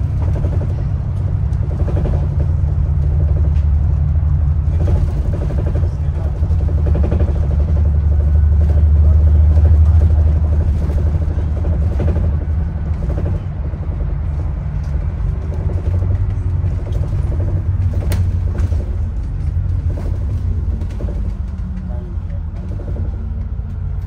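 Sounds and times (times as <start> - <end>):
bus engine and road noise: 0.0 - 24.0.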